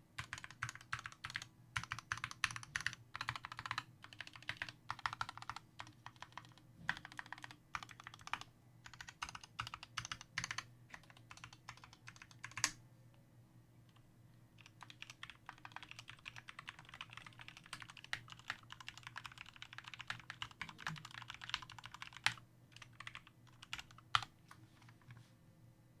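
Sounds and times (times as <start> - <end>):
mechanical keyboard typing: 0.2 - 12.8, 14.6 - 24.3.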